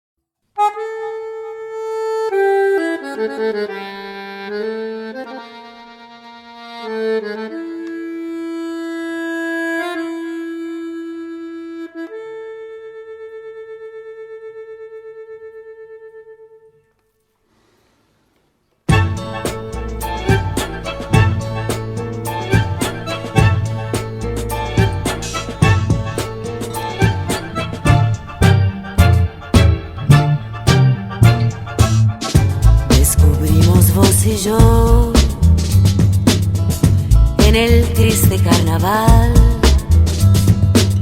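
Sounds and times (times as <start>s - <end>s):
slow solo instrumental melody: 0.6s - 17.0s, 18.9s - 41.0s.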